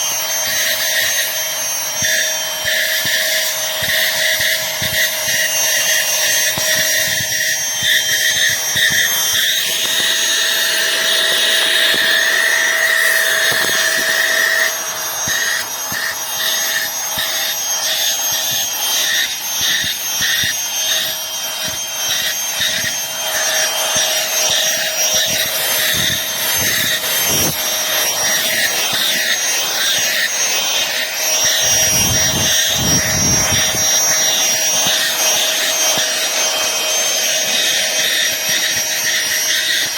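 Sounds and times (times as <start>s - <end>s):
handheld vacuum cleaner running: 0.0s - 39.9s.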